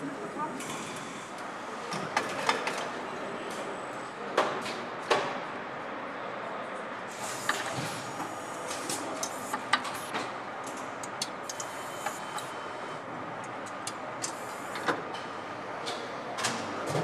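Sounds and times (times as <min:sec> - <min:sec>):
factory background noise: 0:00.0 - 0:17.0.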